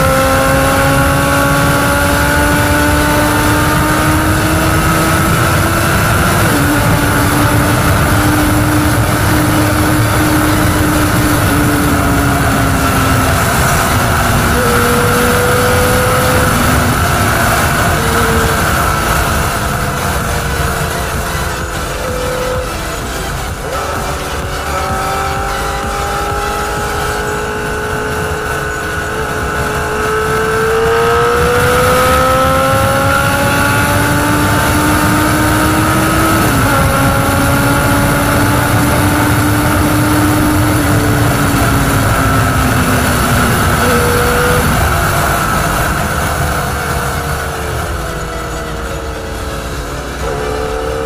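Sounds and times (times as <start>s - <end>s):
motorcycle engine at speed: 0.0s - 51.0s.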